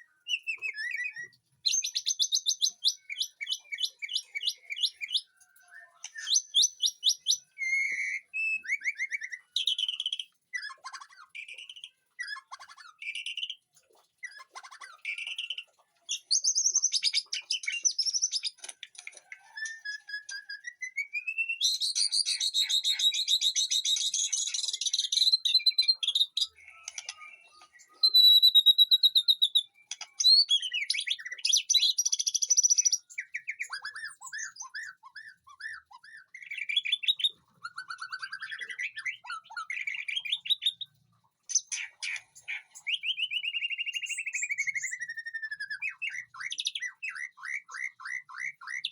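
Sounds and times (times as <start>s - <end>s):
bird singing whistles and trills: 0.0s - 18.6s, 19.2s - 48.9s.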